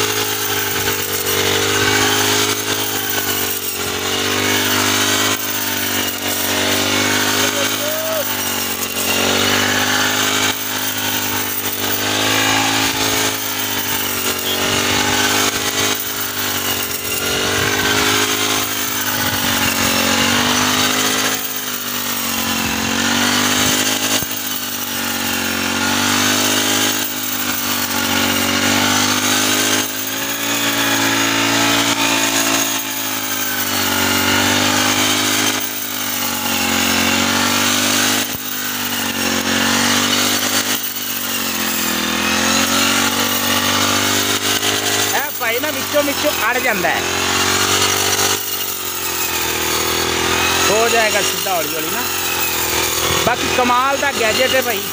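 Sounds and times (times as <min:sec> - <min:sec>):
brush cutter engine running hard: 0:00.0 - 0:54.9.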